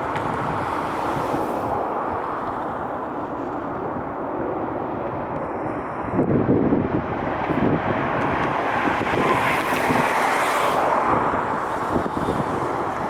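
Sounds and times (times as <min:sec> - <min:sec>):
broad rushing roar: 0:00.0 - 0:13.0
wind buffeting microphone: 0:00.0 - 0:13.0.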